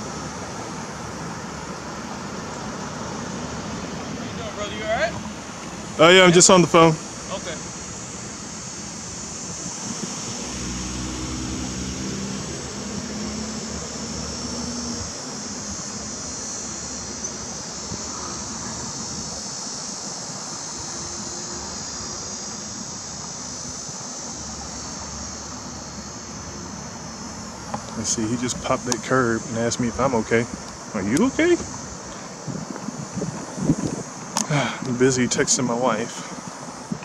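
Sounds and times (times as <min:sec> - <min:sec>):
car engine passing: 0:00.0 - 0:37.0
high-pitched insect buzzing: 0:00.0 - 0:37.0.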